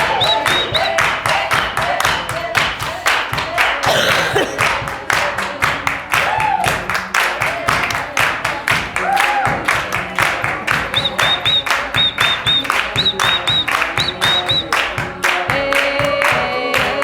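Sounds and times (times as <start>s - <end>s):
group clapping in rhythm: 0.0s - 17.0s
voices: 0.0s - 17.0s.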